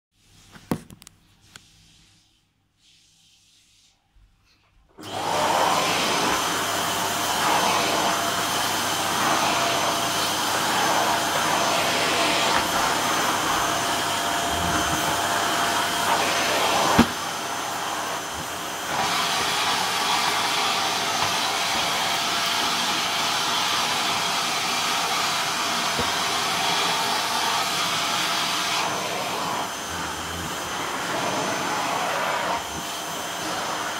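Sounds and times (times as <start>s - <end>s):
vacuum cleaner humming: 4.9s - 33.9s.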